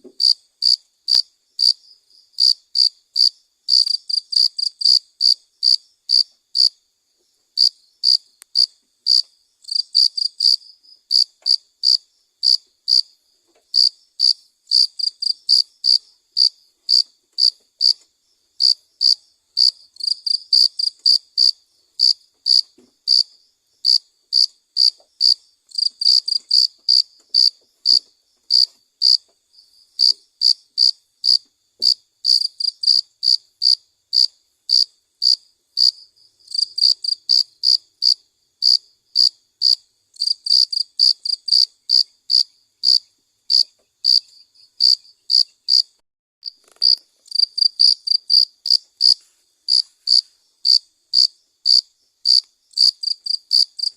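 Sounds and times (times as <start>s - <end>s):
cricket chirping: 0.0s - 53.9s.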